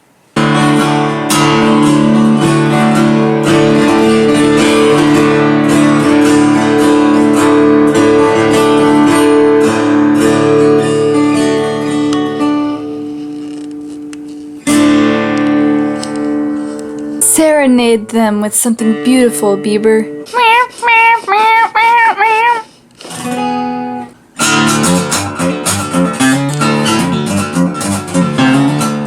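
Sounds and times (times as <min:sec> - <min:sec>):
acoustic guitar strummed chords: 0:00.0 - 0:21.2, 0:21.9 - 0:29.0.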